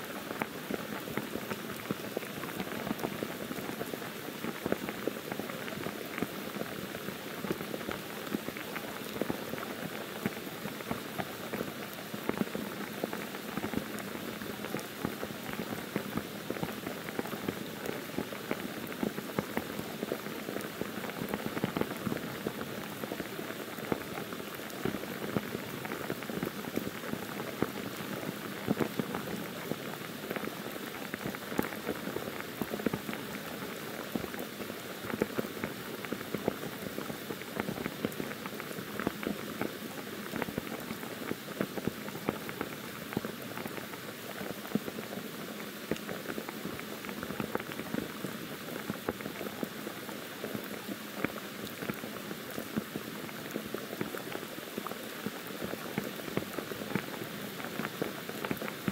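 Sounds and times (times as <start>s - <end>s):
heavy rain on foliage: 0.0s - 58.9s.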